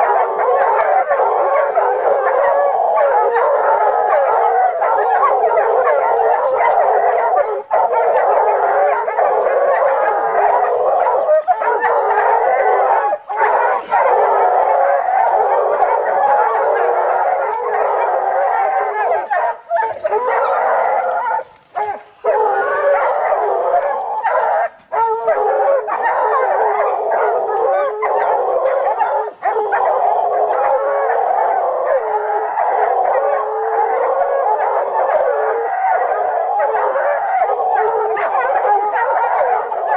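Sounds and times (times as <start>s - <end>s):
hounds baying and howling: 0.0s - 39.9s.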